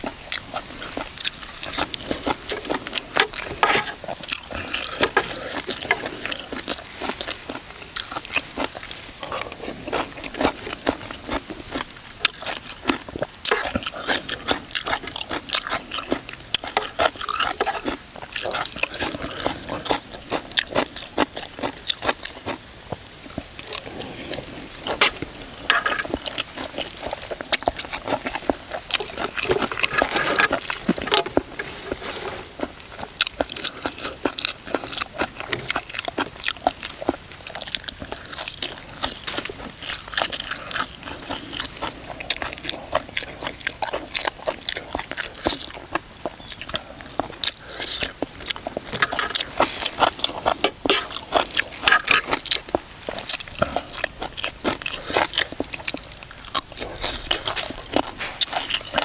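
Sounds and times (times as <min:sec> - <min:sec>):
crunching and wet chewing: 0:00.0 - 0:59.0.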